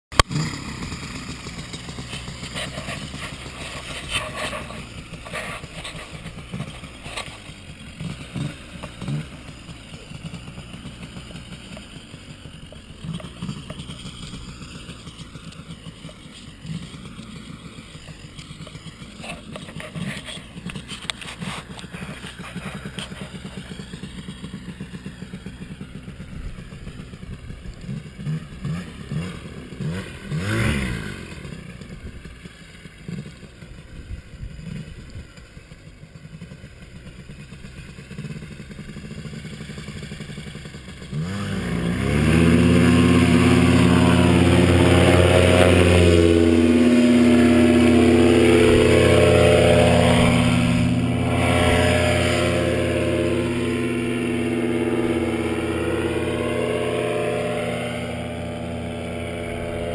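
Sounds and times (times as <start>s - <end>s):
small engine running: 0.1s - 59.9s.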